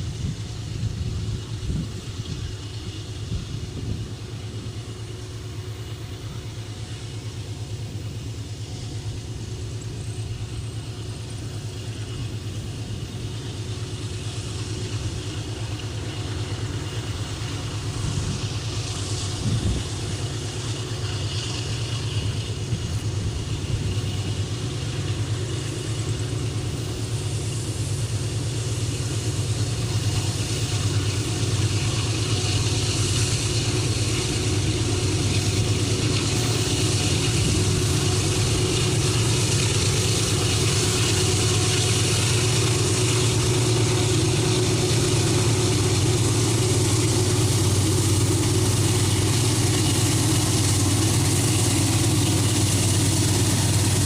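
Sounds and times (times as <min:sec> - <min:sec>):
diesel locomotive engines humming: 0:00.0 - 0:54.0.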